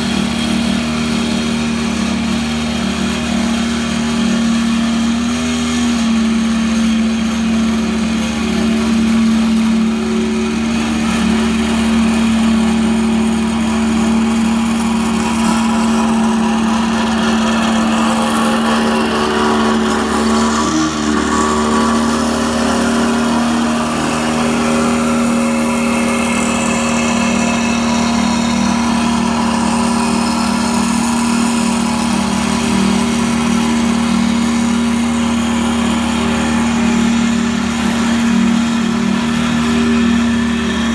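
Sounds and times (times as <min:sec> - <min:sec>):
roller engine droning: 0:00.0 - 0:40.9.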